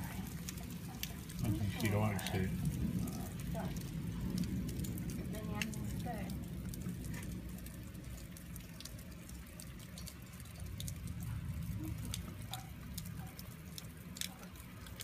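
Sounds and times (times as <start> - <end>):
rain falling: 0.0 - 15.0
sharp drips and taps: 0.0 - 15.0.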